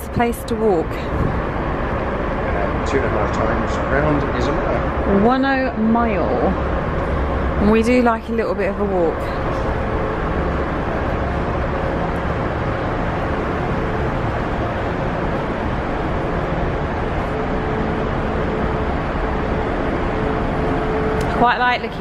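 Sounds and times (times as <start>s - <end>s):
faint steady hum: 0.0s - 22.0s
wind rumbling over microphone: 0.0s - 22.0s.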